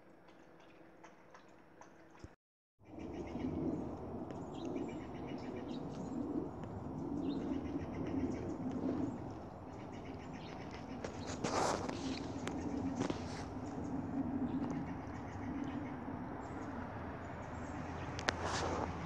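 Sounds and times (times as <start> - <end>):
small birds chirping: 2.9 - 19.0.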